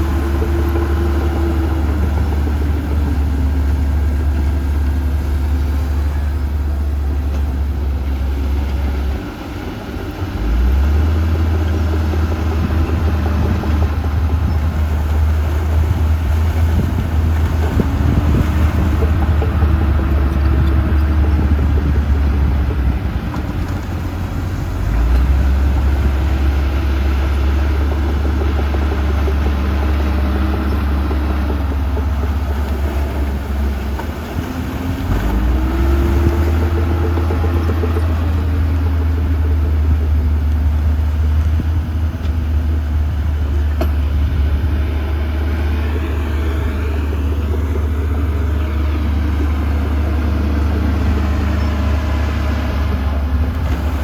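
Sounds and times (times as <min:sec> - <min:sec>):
diesel engines rumbling under load: 0:00.0 - 0:54.0.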